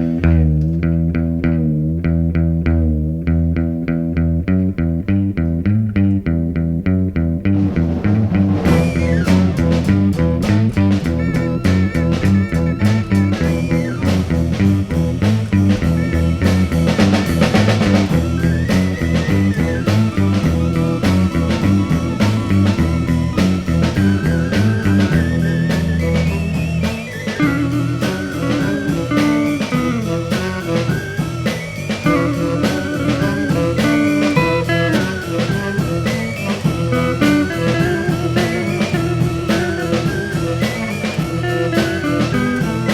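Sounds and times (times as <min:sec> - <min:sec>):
bass and guitar riff: 0:00.0 - 0:42.9
drum kit: 0:07.5 - 0:42.9
organ or saxophone lead line: 0:07.6 - 0:42.9.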